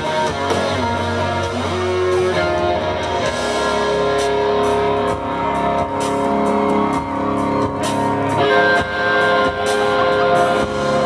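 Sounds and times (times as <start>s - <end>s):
country-rock band playing: 0.0s - 11.0s
electric guitar lines: 0.0s - 11.0s.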